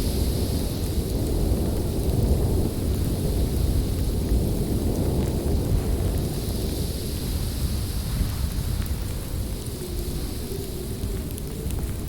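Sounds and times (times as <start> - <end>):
snowstorm wind blowing: 0.0 - 12.0.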